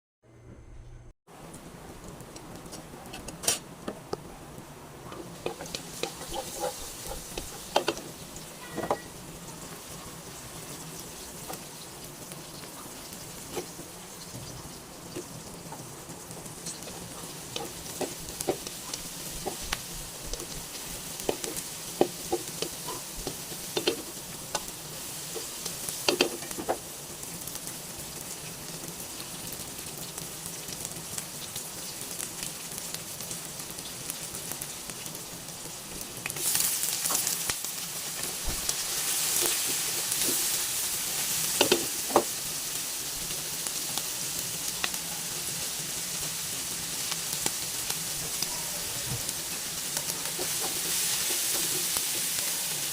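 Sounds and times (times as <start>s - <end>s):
food sizzling in a pan: 1.3s - 52.9s.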